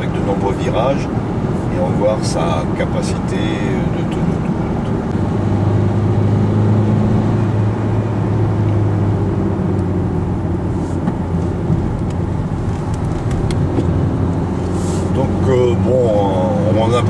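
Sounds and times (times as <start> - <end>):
car engine hum: 0.0 - 17.0.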